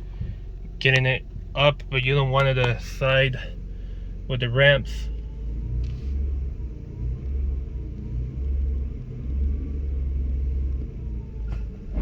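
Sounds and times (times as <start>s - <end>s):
engine rumbling in surges: 0.0s - 12.0s.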